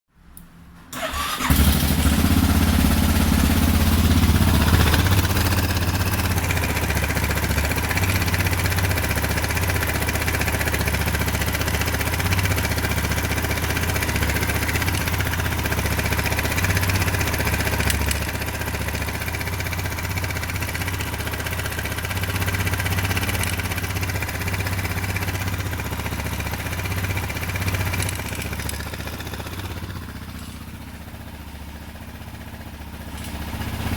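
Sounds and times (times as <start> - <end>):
motorcycle engine idling: 1.0 - 33.9
engine ticking noise: 2.7 - 30.8.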